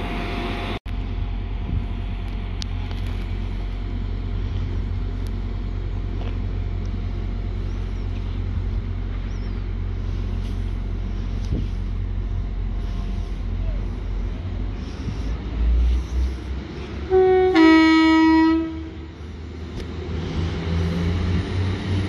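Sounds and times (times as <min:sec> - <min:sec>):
diesel train engines droning: 0:00.0 - 0:22.0.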